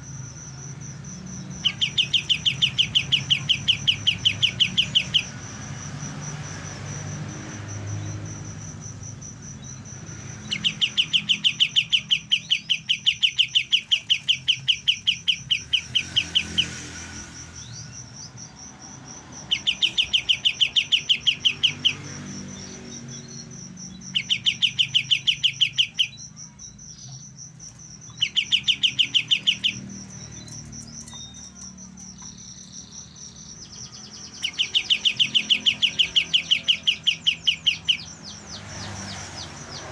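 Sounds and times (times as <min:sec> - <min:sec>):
bird trilling: 0:00.0 - 0:09.0, 0:09.6 - 0:18.4, 0:19.4 - 0:39.9.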